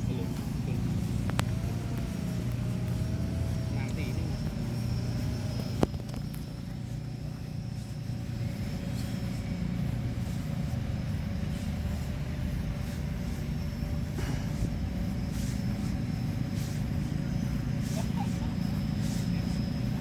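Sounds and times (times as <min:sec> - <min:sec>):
faint constant hum: 0:00.0 - 0:20.0
low mechanical rumble: 0:00.0 - 0:20.0.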